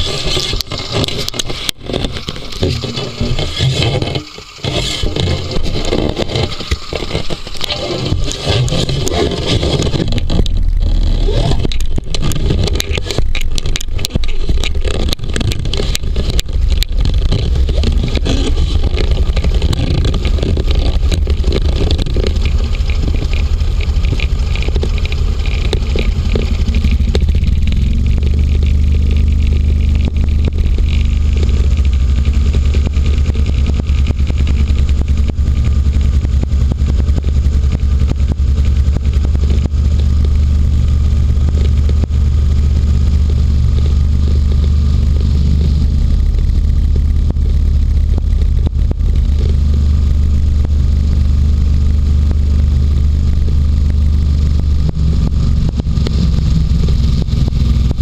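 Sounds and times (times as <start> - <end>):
hovercraft engine drone: 0.0 - 58.0
sharp clicks and knocks: 0.0 - 58.0.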